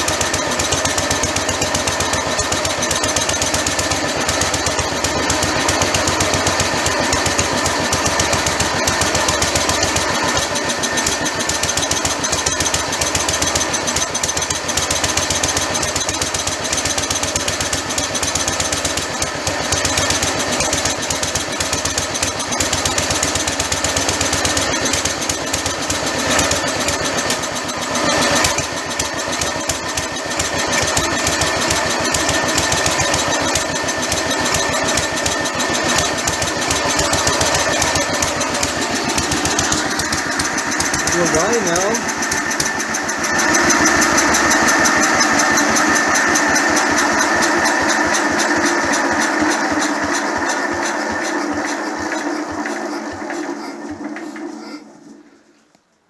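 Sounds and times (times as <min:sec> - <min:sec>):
stationary engine running: 0:00.0 - 0:55.4.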